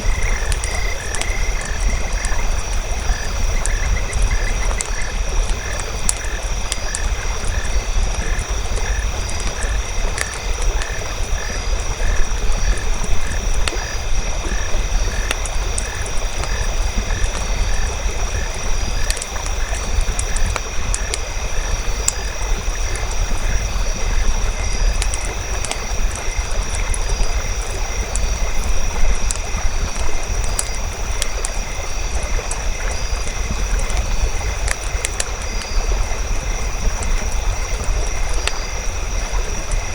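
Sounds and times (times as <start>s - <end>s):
campfire crackling and popping: 0.0s - 39.9s
frogs croaking: 0.0s - 39.9s.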